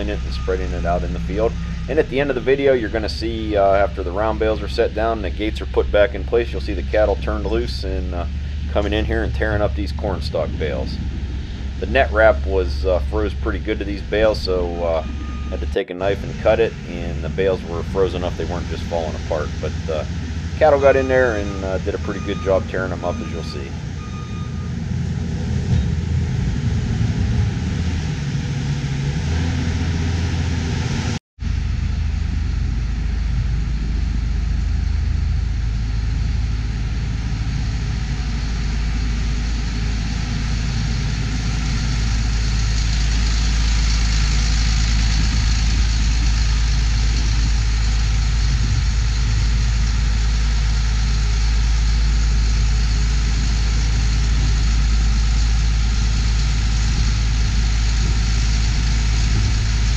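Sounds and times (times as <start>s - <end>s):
loader engine varying pitch: 0.0s - 59.9s
tractor diesel engine drone: 0.0s - 59.9s.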